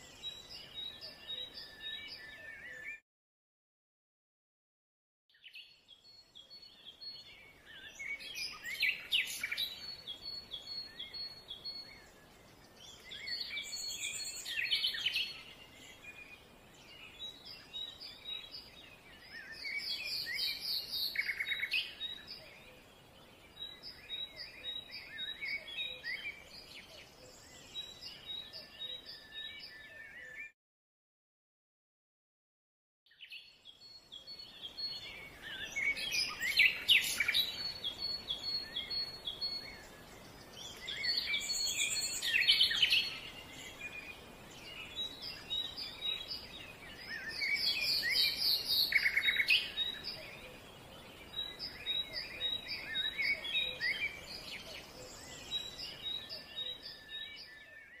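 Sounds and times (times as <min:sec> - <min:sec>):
faint steady outdoor hiss: 0:00.0 - 0:02.9, 0:05.4 - 0:30.2, 0:33.2 - 0:58.0
wild birds chirping and trilling: 0:00.0 - 0:03.0, 0:05.3 - 0:30.6, 0:33.1 - 0:58.0.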